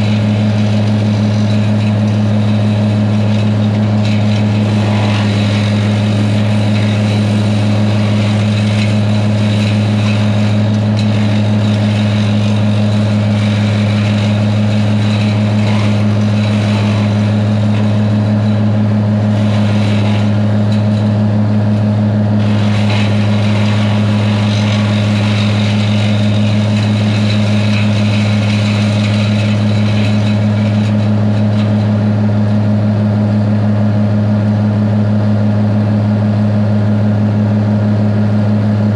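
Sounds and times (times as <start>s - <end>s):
farm machine engine humming: 0.0s - 38.9s.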